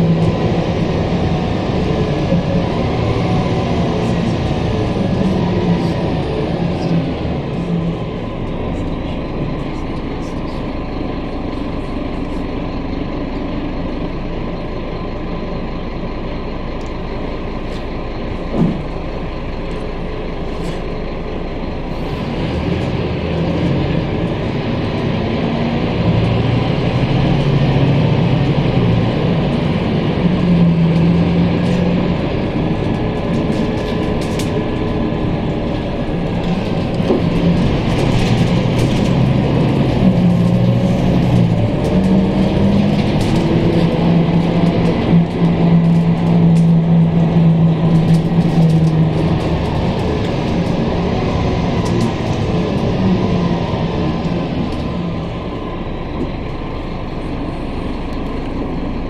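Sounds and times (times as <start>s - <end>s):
bus engine and road drone: 0.0s - 59.0s.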